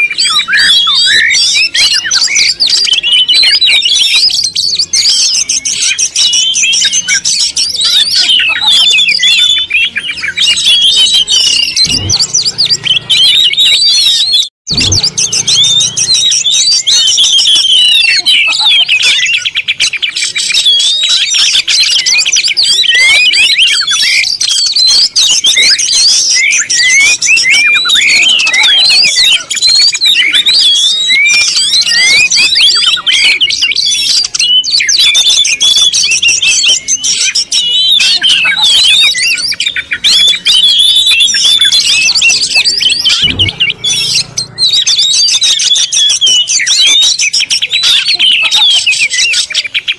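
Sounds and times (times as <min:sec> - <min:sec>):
flock of birds chirping: 0:00.0 - 0:49.9.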